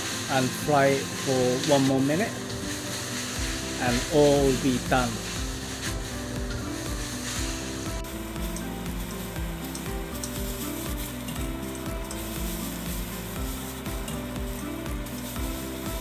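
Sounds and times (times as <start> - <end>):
background music: 0.0 - 16.0
noodles sizzling in a wok: 0.0 - 16.0.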